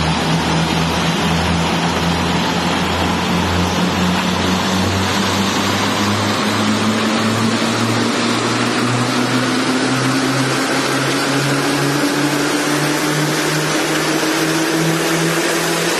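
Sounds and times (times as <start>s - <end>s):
thresher rumbling: 0.0s - 15.4s
low machine hum: 0.0s - 15.9s.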